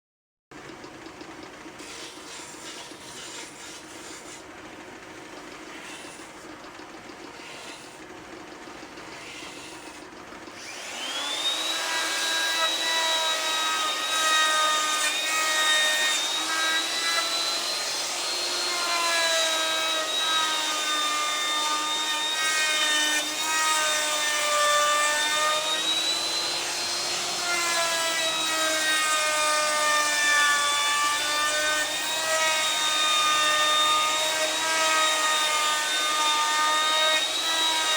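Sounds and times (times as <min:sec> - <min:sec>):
power tool cutting wood: 0:01.8 - 0:04.5, 0:05.3 - 0:08.2, 0:08.9 - 0:37.9.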